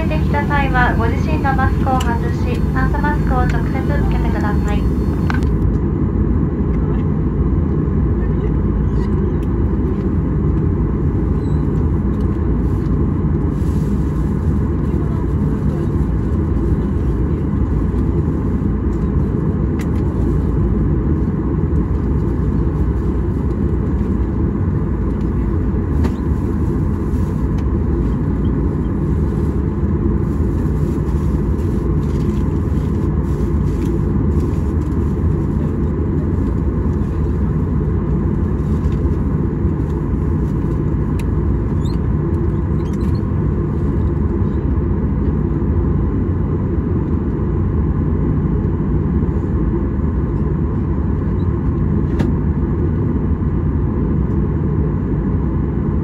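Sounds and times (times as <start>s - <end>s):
airliner cabin low rumble: 0.0s - 56.0s
faint steady hum: 0.0s - 56.0s.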